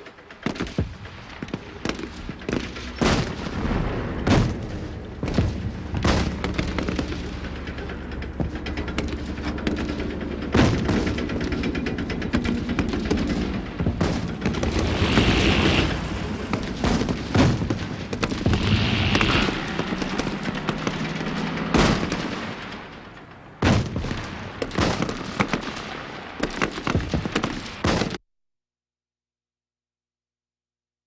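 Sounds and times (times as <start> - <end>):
machine-gun fire: 0.2 - 28.2
heavy booms: 0.3 - 28.1.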